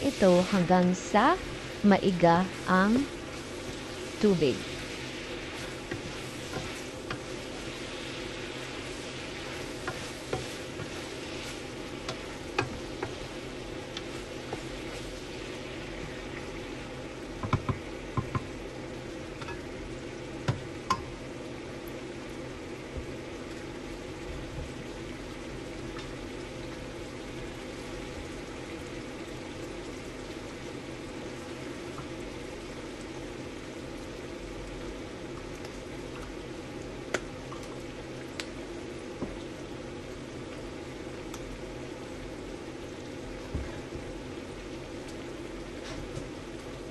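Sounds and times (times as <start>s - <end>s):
liquid simmering in a pan: 0.0s - 46.9s
stew bubbling: 0.0s - 46.9s.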